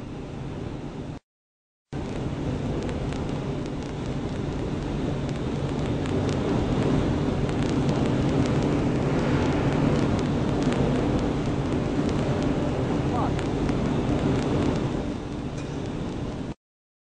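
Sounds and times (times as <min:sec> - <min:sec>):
forging hammer motor drone: 0:02.0 - 0:16.6.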